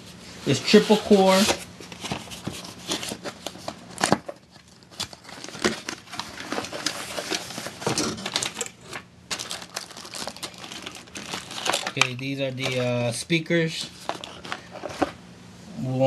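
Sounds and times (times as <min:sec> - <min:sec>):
cardboard and plastic packaging rustling: 0:00.4 - 0:15.2.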